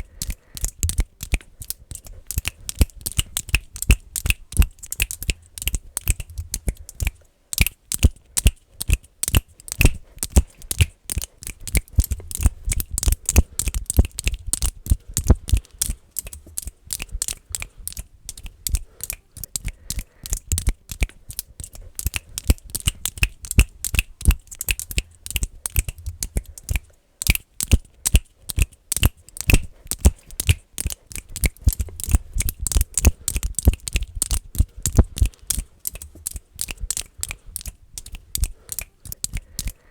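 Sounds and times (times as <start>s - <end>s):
fast finger clicking: 0.0s - 39.9s.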